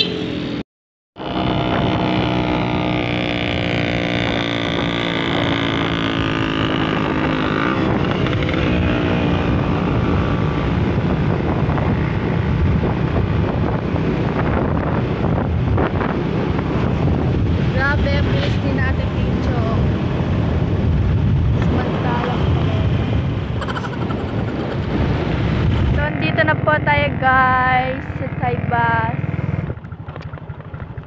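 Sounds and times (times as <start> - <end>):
wind rushing over microphone: 1.2 - 30.0
motorcycle engine running: 1.2 - 31.0.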